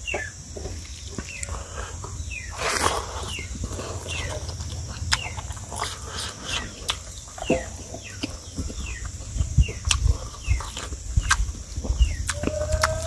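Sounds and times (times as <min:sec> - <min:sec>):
birds chirping: 0:00.0 - 0:13.0
chewing and lip smacks: 0:00.9 - 0:13.0.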